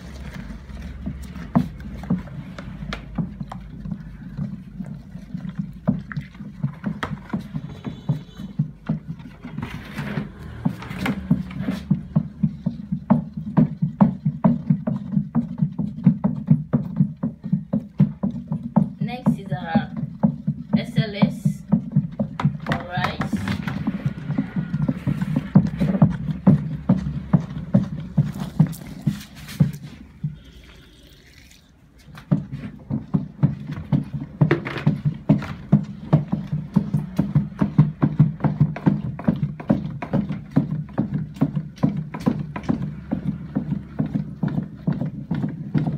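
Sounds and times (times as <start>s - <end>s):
liquid sloshing: 0.0s - 18.8s, 21.6s - 45.9s
stick knocking plastic drum: 0.0s - 30.5s, 32.0s - 45.9s.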